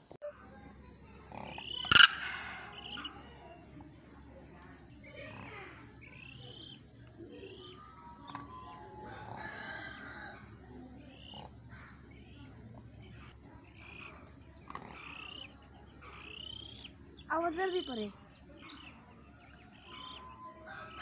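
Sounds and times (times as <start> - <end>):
chick peeping: 0.6 - 21.0.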